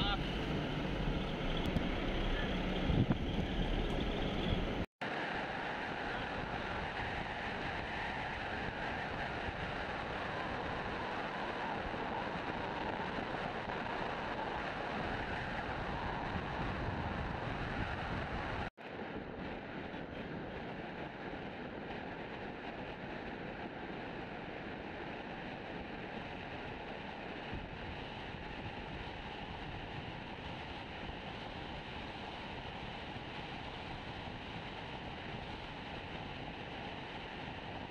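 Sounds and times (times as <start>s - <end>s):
vehicle wind and road noise: 0.0s - 37.9s
wind rushing over microphone: 0.0s - 37.9s.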